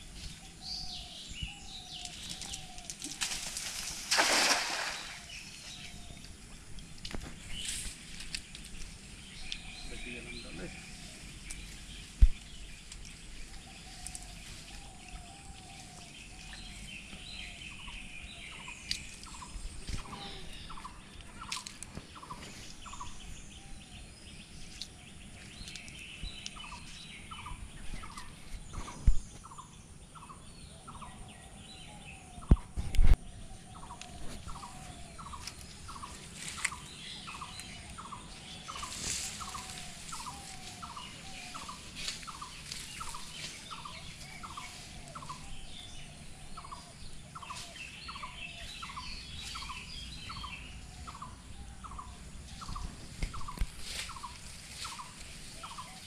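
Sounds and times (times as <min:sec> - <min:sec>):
birds falling calls and chirps: 0:00.0 - 0:56.0.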